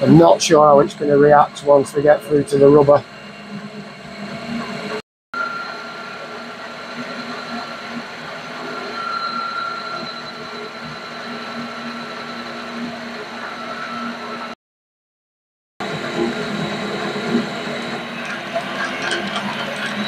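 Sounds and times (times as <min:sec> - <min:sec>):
high whine of cutting tool: 0:00.0 - 0:14.6, 0:15.8 - 0:20.0
lathe mechanical hum: 0:00.0 - 0:14.6, 0:15.8 - 0:20.0.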